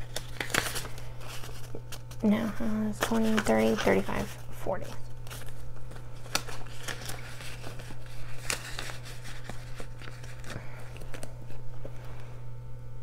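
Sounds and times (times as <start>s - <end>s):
paper and plastic pouch rustling: 0.0s - 12.0s
steady low hum: 0.0s - 13.0s.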